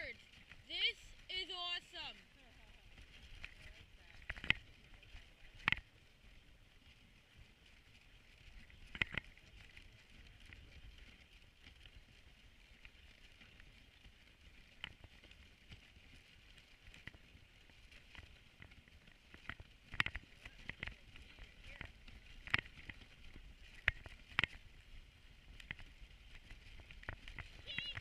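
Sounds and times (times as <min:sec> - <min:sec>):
sled knocking and creaking: 0:00.0 - 0:28.0.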